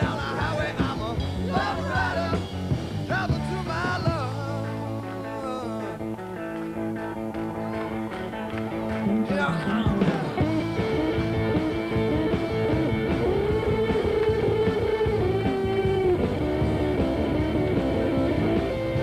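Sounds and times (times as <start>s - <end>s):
rock band music: 0.0s - 19.0s.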